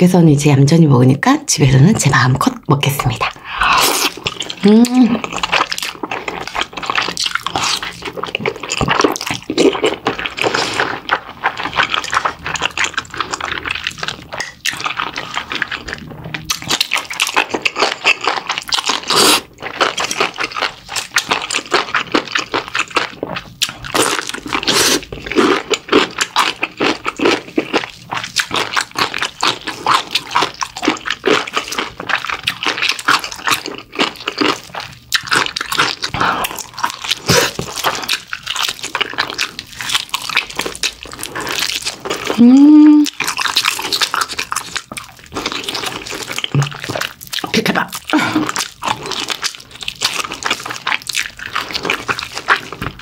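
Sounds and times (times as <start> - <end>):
wet chewing and lip-smacking: 2.8 - 53.0.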